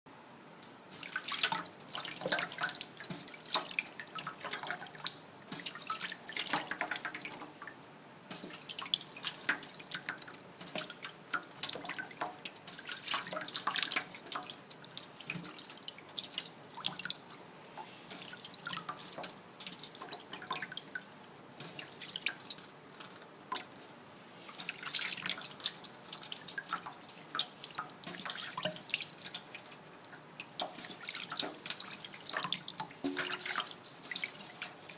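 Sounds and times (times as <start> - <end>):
tap water splashing: 0.9 - 34.9.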